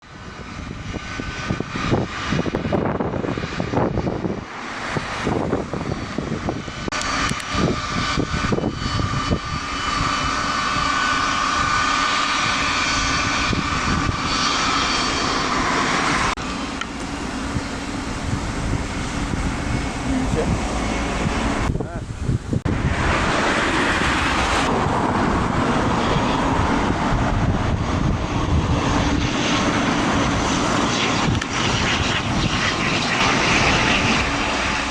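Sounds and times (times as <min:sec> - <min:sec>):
wind buffeting microphone: 0:00.0 - 0:34.9
jet engines whining: 0:00.1 - 0:34.9.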